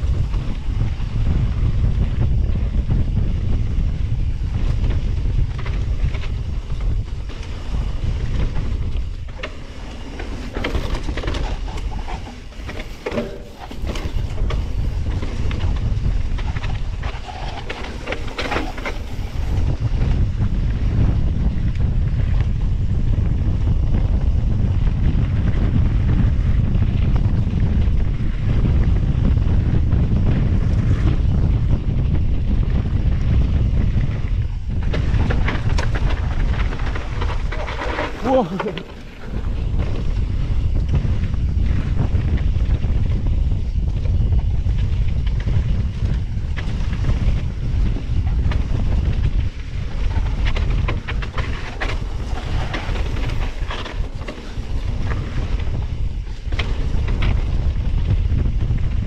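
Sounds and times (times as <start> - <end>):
bike tyres rumbling on dirt: 0.0 - 59.0
wind rumble on microphone: 0.0 - 59.0
bike frame and chain rattling: 0.1 - 21.0, 21.8 - 59.0.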